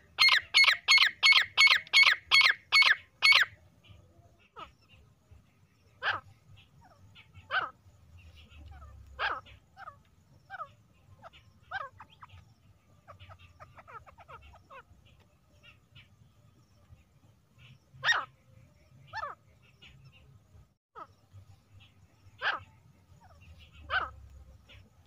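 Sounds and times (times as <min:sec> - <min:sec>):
francolin calling: 0:00.0 - 0:05.0, 0:05.8 - 0:16.2, 0:17.6 - 0:20.3, 0:21.0 - 0:25.0.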